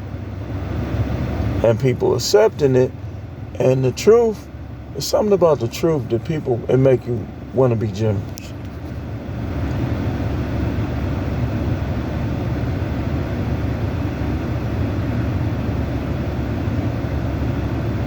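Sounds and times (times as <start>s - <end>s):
vehicle low rumble: 0.0s - 18.0s.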